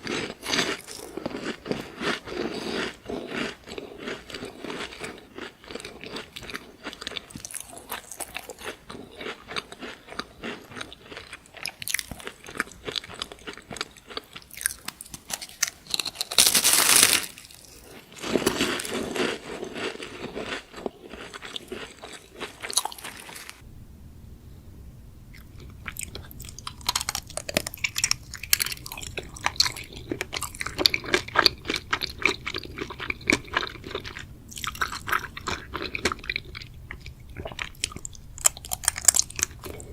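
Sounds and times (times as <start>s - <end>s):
crunching and chewing snacks: 0.0s - 23.6s, 25.4s - 39.9s
faint low hum: 0.0s - 39.9s.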